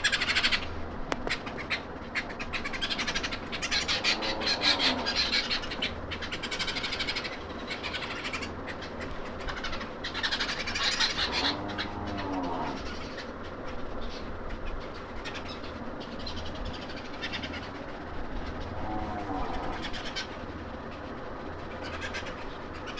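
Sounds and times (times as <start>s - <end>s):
birds chirping and trilling: 0.0s - 22.9s
rising and falling animal calls: 1.3s - 13.7s, 15.1s - 22.9s.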